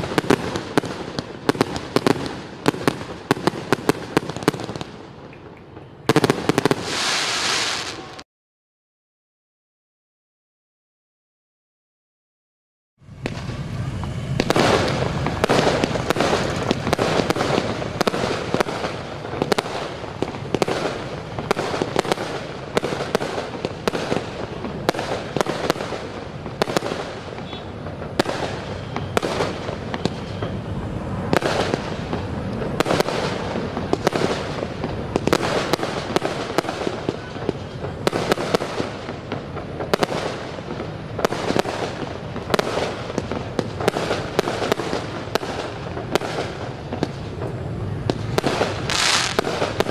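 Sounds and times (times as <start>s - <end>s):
fireworks crackling and banging: 0.0s - 8.2s, 13.0s - 49.9s.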